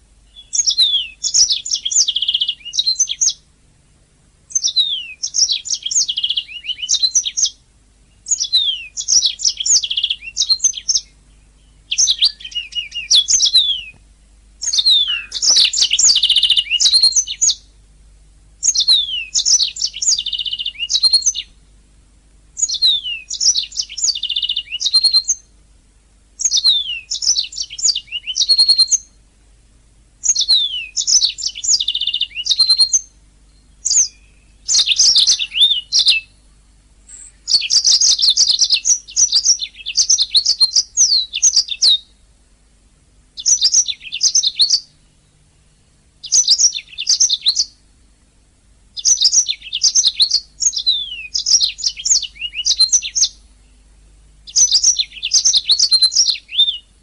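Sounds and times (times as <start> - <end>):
canary singing: 0.0 - 3.5, 4.5 - 14.0, 14.6 - 17.8, 18.6 - 21.8, 22.6 - 25.6, 26.4 - 29.2, 30.2 - 42.2, 43.3 - 48.2, 49.0 - 57.0.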